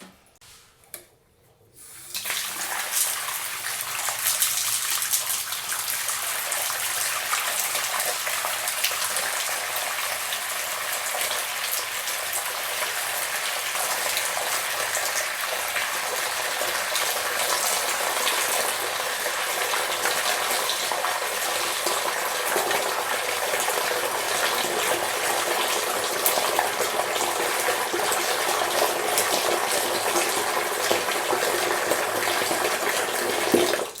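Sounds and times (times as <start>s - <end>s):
tap water running and splashing: 1.8s - 34.0s.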